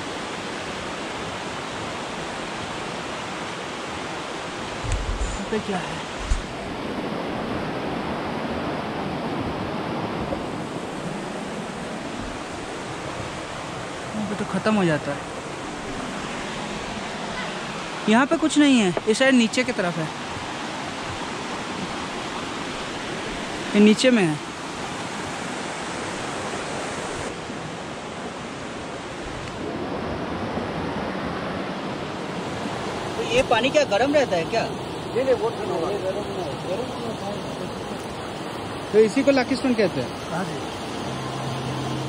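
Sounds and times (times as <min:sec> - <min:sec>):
water rushing: 0:00.0 - 0:42.0.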